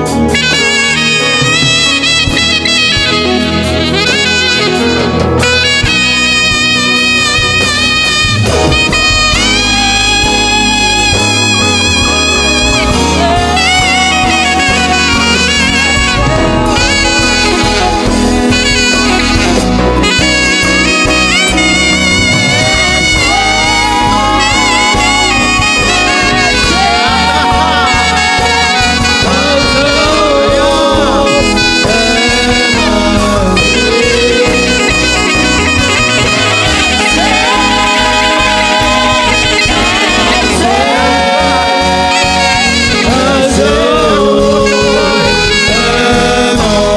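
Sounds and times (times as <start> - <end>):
drums: 0.0 - 46.9
gospel band keyboard: 0.0 - 46.9
saxophone sliding melody: 0.0 - 46.9.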